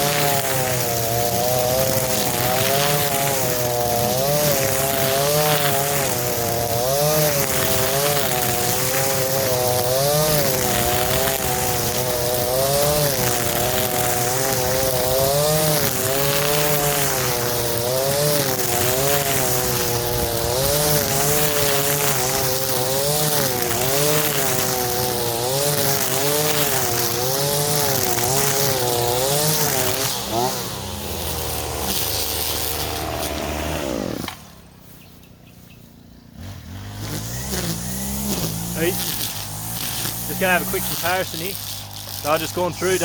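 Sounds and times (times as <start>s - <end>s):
grass cutter engine revving: 0.0s - 43.0s.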